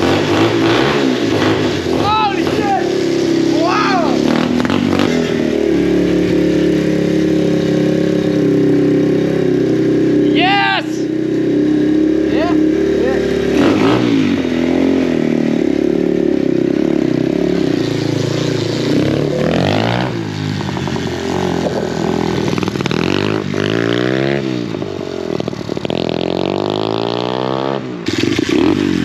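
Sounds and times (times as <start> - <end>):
motorbike engine revving: 0.0 - 29.0.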